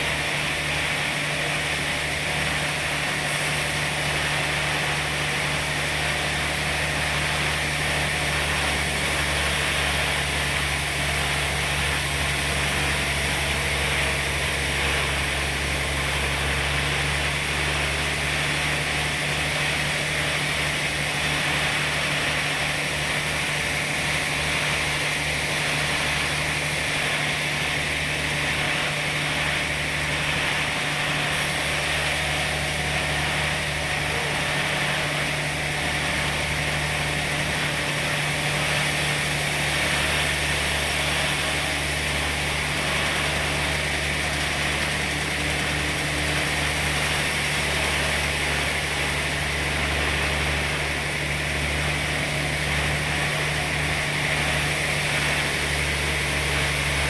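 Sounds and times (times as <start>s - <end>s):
sawmill machinery hum and hiss: 0.0s - 57.0s.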